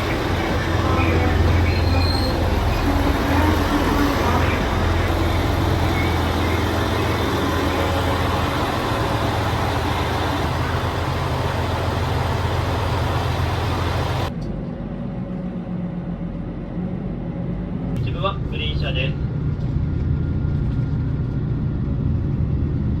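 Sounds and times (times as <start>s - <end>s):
strong low hum: 0.0s - 23.0s
train rumble: 0.0s - 23.0s.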